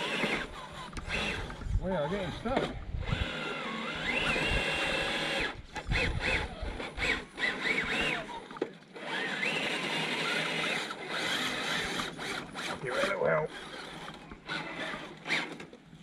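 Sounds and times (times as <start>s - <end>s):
toy truck electric motor whining: 0.0s - 15.8s.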